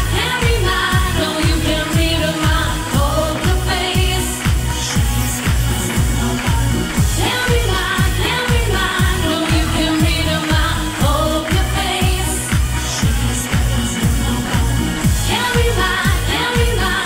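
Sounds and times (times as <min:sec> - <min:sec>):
kick drum beating: 0:00.0 - 0:16.8
dance backing track: 0:00.0 - 0:17.0
woman singing pop song: 0:00.0 - 0:17.0.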